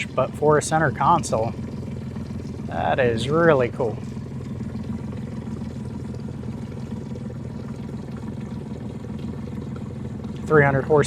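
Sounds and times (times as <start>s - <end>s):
boat motor humming: 0.0s - 11.0s
water against hull: 0.0s - 11.0s.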